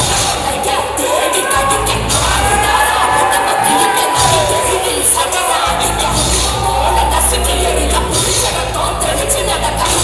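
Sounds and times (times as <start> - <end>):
loud dance music with heavy bass: 0.0 - 10.0.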